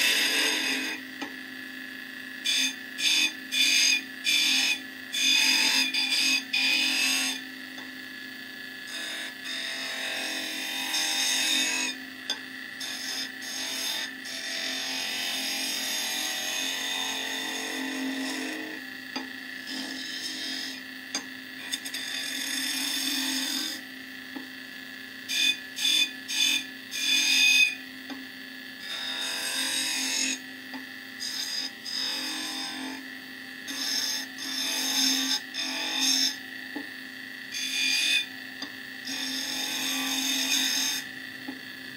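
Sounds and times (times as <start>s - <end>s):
chisel cutting spinning wood: 0.0s - 41.9s
lathe humming: 0.0s - 41.9s.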